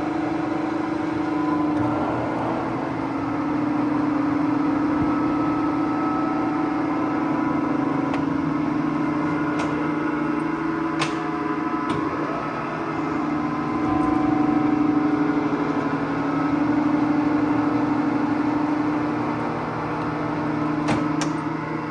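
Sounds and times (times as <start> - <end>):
lathe machine hum: 0.0 - 21.9.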